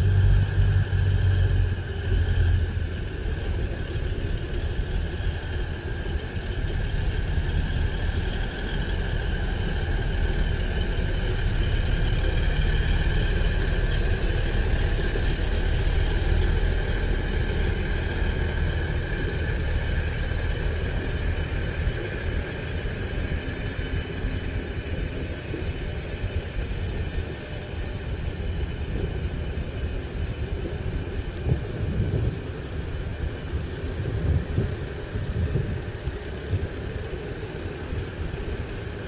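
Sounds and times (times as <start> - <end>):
diesel train rolling past: 0.0 - 39.0.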